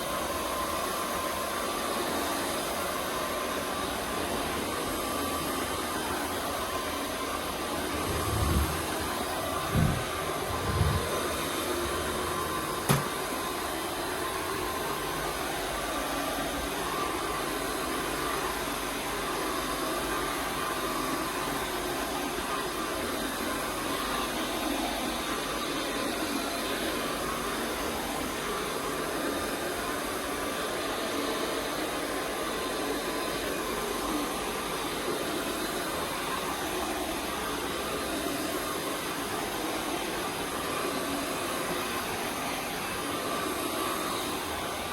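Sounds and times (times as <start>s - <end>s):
carpet cleaning vacuum running: 0.0s - 44.9s.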